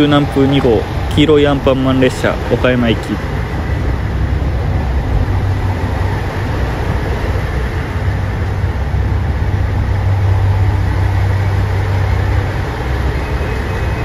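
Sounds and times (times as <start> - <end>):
diesel train engine drone: 0.0 - 14.0
train rolling noise: 0.0 - 14.0.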